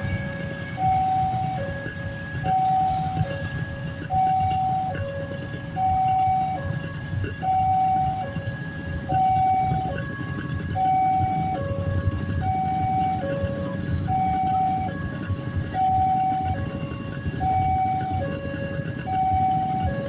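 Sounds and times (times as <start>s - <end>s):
traffic engines rumbling: 0.0s - 20.0s
two-tone crossing alarm: 0.0s - 20.0s.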